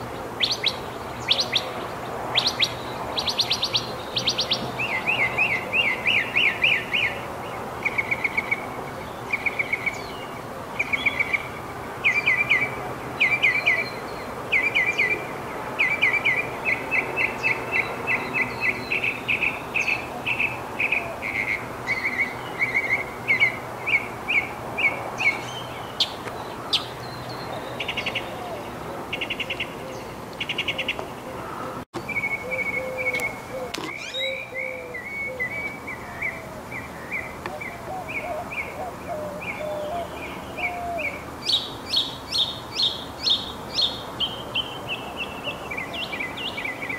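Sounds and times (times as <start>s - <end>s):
bird singing: 0.0s - 46.9s.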